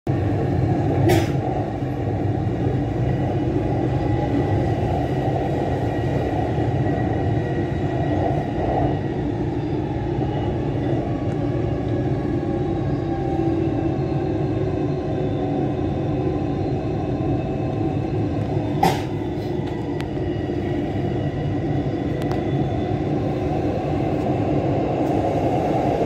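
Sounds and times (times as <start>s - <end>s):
train rumbling along track: 0.1s - 26.0s.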